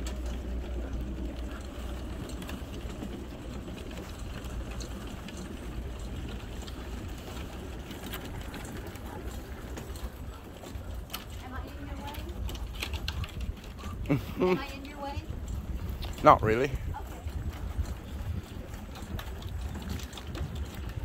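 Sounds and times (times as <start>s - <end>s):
wheels rolling on wooden planks: 0.0s - 21.0s.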